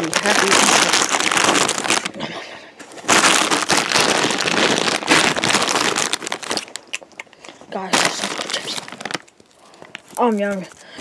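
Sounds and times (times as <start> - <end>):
plastic chip bag crinkling: 0.0 - 11.0.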